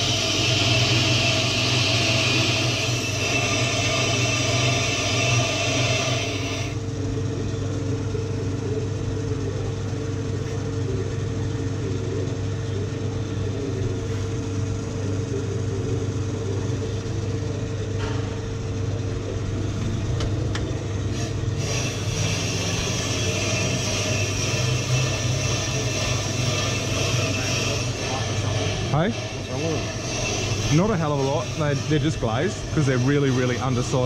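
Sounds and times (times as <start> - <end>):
brake lathe motor hum: 0.0 - 34.0.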